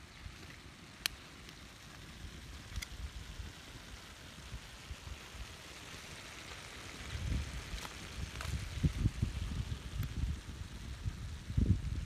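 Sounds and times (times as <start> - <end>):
chicken sizzling in oil: 0.0 - 12.0
oil crackle: 0.0 - 12.0.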